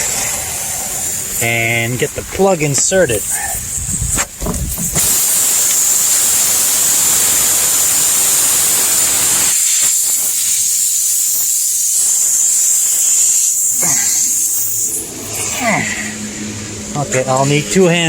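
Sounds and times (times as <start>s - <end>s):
air hissing from tire puncture: 0.0s - 16.9s.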